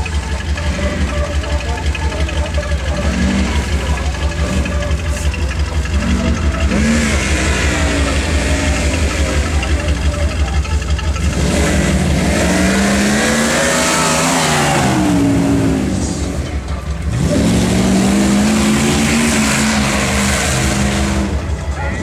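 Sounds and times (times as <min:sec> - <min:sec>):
engine revving under load: 0:00.0 - 0:22.0.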